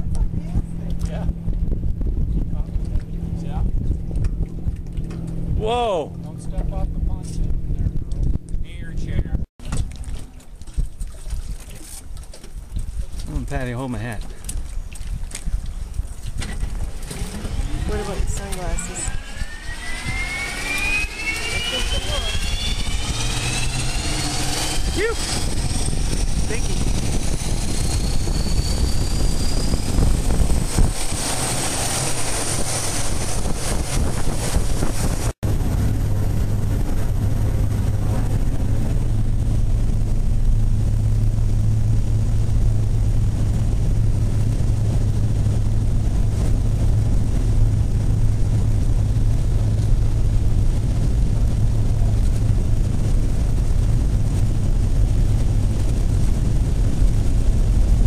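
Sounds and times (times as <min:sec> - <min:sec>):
plane engine and propeller droning: 0:00.0 - 0:58.0.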